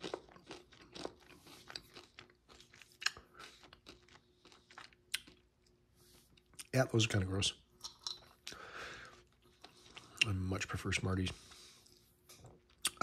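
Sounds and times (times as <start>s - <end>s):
crunching and chewing candy: 0.0s - 6.7s, 7.8s - 10.4s, 11.8s - 13.0s.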